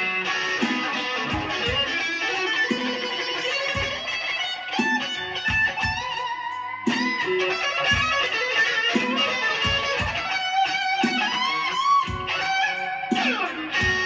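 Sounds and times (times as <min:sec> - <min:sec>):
steady low beat: 0:00.0 - 0:03.2, 0:04.9 - 0:14.0
electric guitar blues lead: 0:00.0 - 0:14.0.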